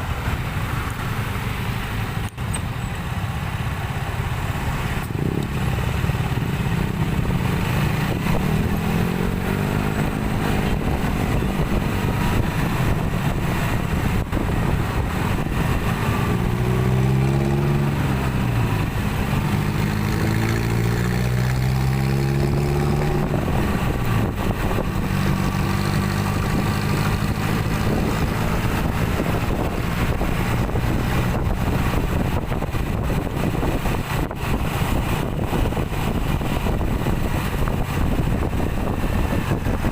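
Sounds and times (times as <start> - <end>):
cars passing: 0.0 - 39.9
motorcycles passing: 0.0 - 39.9.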